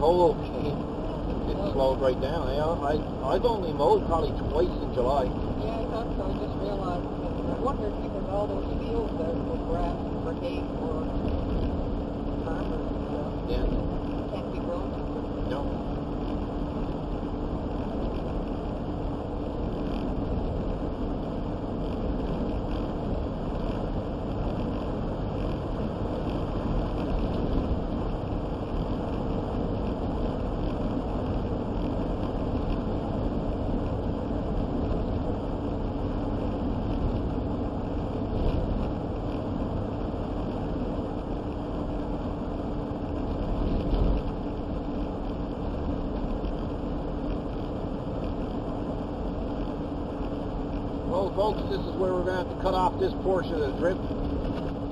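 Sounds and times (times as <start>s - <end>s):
vehicle engine and road noise: 0.0s - 54.9s.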